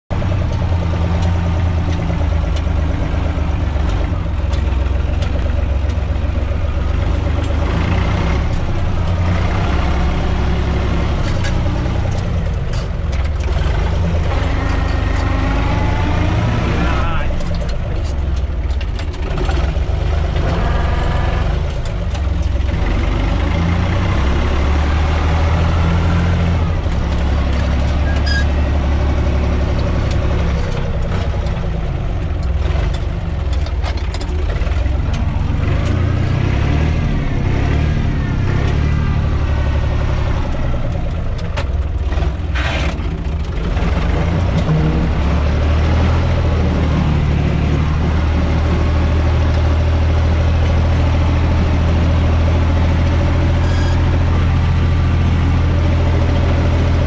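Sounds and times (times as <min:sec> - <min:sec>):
tractor diesel engine running: 0:00.1 - 0:57.0.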